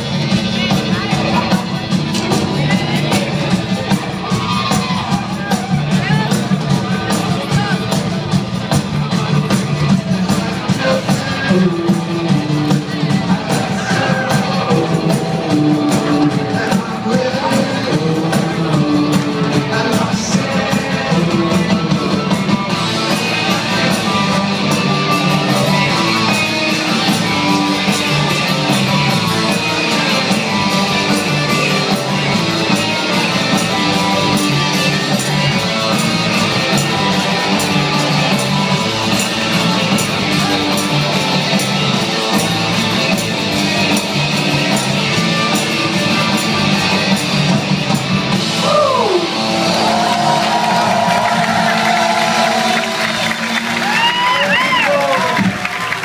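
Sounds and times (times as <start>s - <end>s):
electric guitars: 0.0s - 56.0s
steady drum beat: 0.0s - 56.0s.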